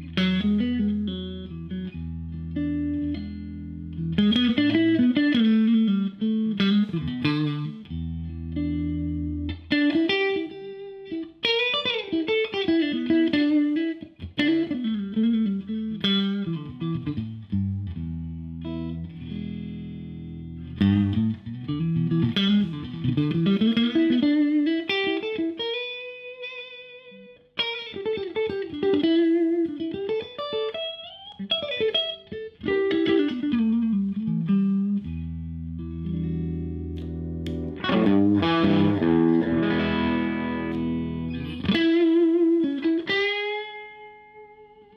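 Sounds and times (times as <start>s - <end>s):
electric guitar lead melody: 0.0s - 44.9s.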